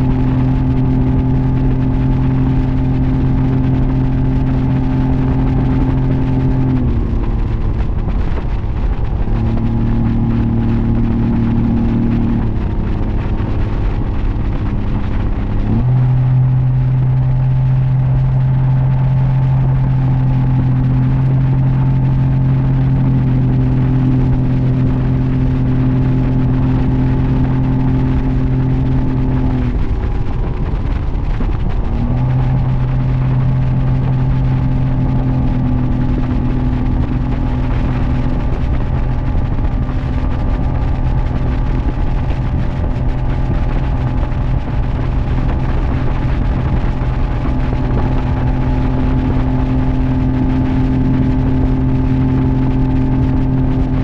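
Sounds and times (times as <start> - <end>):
outboard motor drone: 0.0 - 54.0
rush of boat wake: 0.0 - 54.0.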